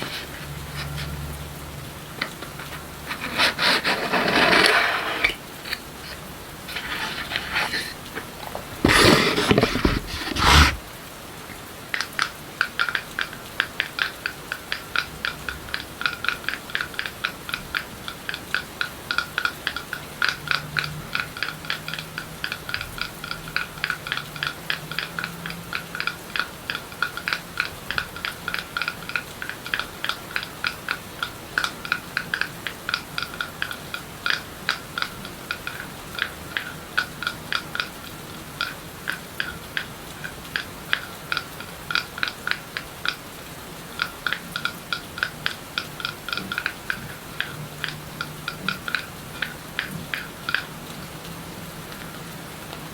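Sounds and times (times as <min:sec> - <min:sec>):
rain hiss: 0:00.0 - 0:52.9.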